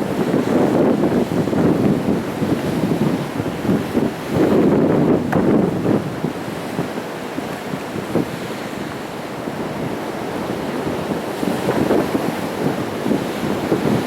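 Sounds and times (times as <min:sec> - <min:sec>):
sea waves breaking on rocks: 0:00.0 - 0:14.0
wind buffeting the microphone: 0:00.0 - 0:14.0.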